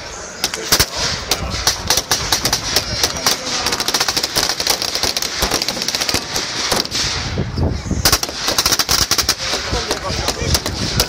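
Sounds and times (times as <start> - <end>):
gunshots cracking rapidly: 0.4 - 7.3, 8.0 - 11.0.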